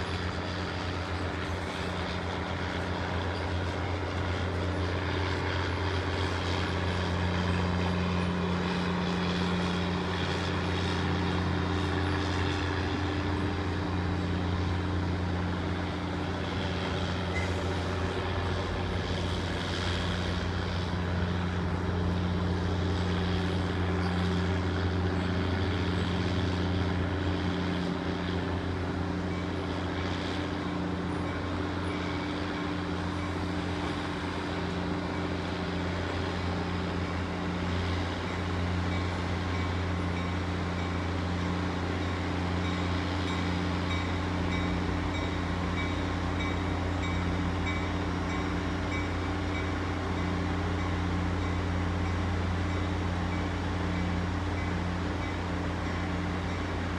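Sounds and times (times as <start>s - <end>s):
diesel train droning: 0.0s - 56.9s.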